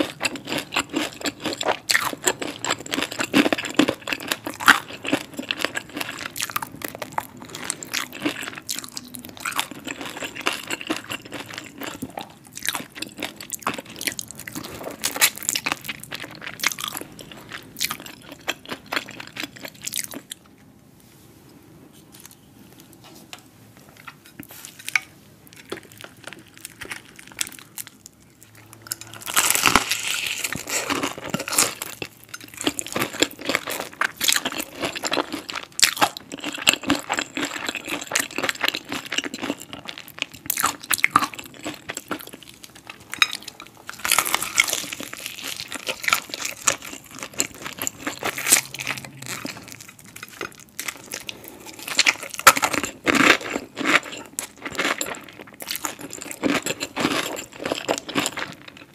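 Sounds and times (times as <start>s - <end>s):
crunchy chewing of fried chicken: 0.0s - 20.8s, 24.0s - 58.9s.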